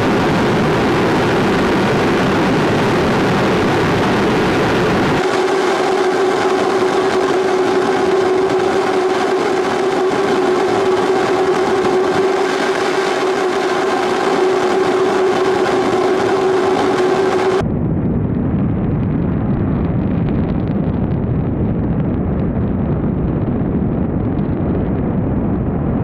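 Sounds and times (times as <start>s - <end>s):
constant hum-like tone: 0.0s - 26.0s
dull low rumble: 0.0s - 26.0s
rocket booster roaring: 0.0s - 26.0s.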